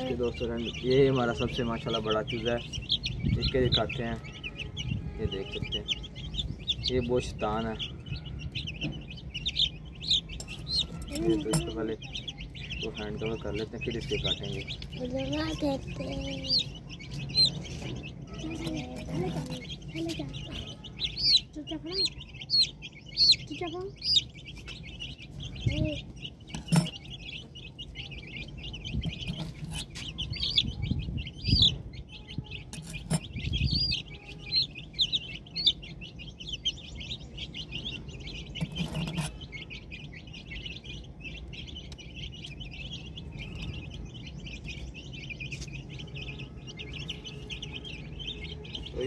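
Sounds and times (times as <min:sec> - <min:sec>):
chicks cheeping: 0:00.0 - 0:49.0.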